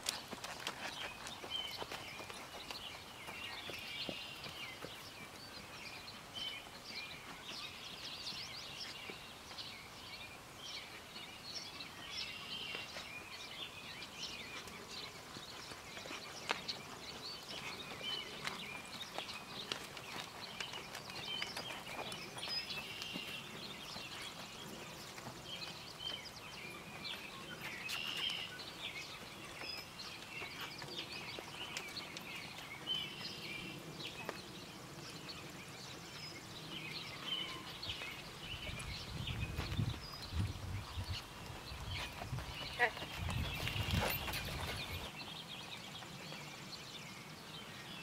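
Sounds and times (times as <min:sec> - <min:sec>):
muffled horse hoofbeats on dirt: 0:00.0 - 0:09.8, 0:12.1 - 0:47.0
small birds chirping and singing: 0:00.0 - 0:48.0.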